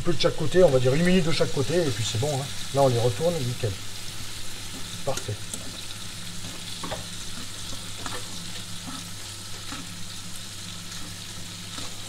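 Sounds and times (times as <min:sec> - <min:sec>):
prawns sizzling in frying pan: 0:00.0 - 0:12.0.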